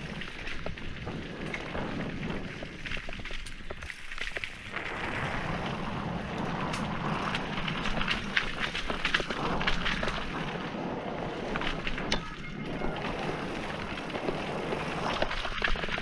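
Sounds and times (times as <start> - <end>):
bike rattling and knocking: 0.0 - 16.0
tyres crunching over loose stones: 0.0 - 16.0.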